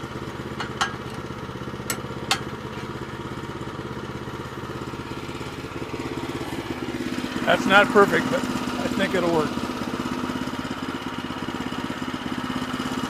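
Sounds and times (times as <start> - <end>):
gas engine running: 0.0 - 13.0.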